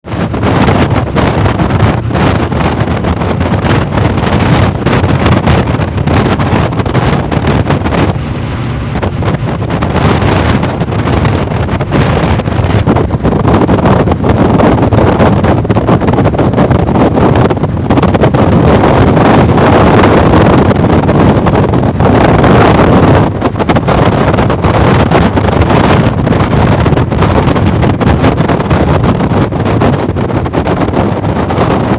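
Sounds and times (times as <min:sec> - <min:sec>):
low vehicle rumble: 0:00.0 - 0:31.9
wind buffeting microphone: 0:00.0 - 0:31.9.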